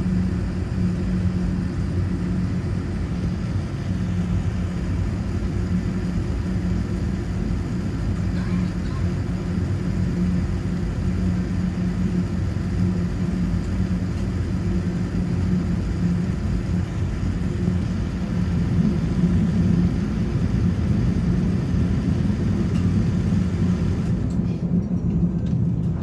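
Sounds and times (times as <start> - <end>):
vehicle rumble with low hum: 0.0 - 26.0.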